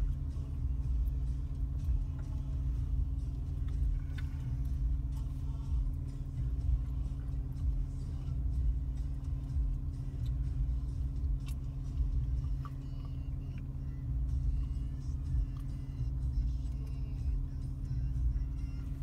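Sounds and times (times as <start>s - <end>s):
car cabin rumble: 0.0s - 19.0s
faint music from car stereo: 0.0s - 19.0s.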